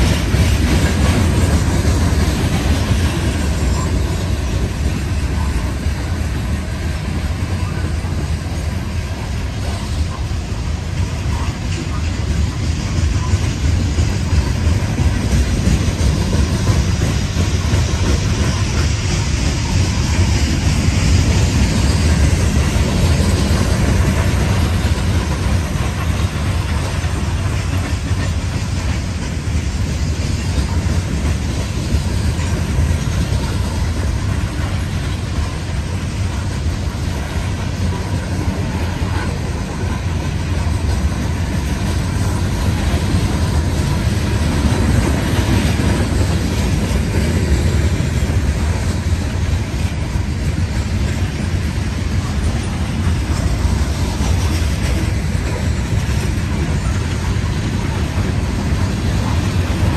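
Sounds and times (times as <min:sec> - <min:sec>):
freight train wheels rolling on rails: 0:00.0 - 0:59.9.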